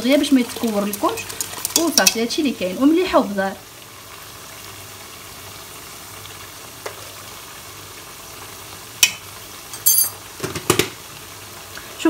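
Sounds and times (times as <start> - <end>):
milk sauce hissing in a saucepan: 0.0 - 12.0.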